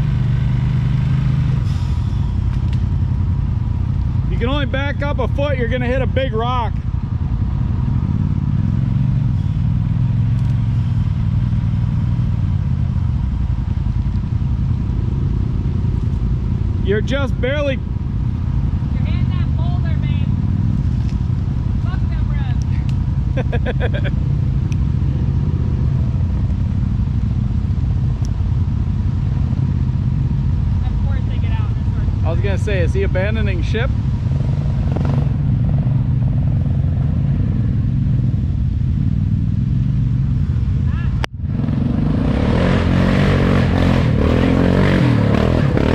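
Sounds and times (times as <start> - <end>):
off-road vehicle engine at low revs: 0.0 - 45.9.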